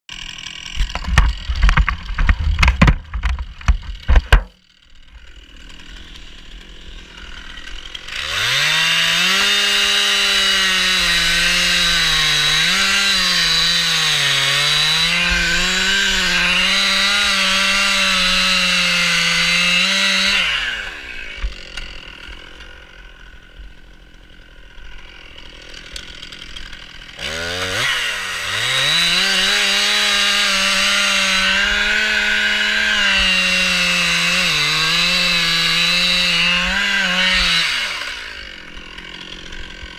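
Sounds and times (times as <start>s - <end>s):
chainsaw cutting wood: 0.1s - 39.9s.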